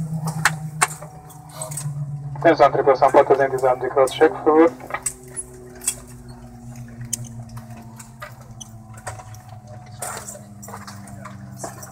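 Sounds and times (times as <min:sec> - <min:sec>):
faint steady tones: 0:00.0 - 0:11.9.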